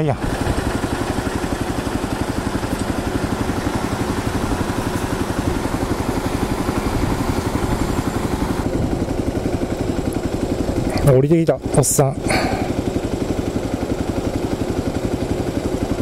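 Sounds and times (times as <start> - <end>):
motorcycle engine idling: 0.2 - 16.0.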